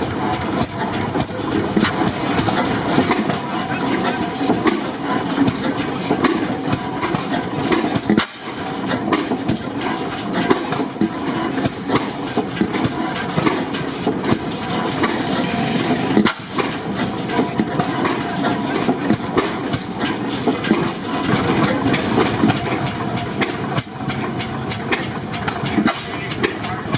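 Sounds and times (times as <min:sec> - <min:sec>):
stationary gas engines clattering: 0:00.0 - 0:26.9.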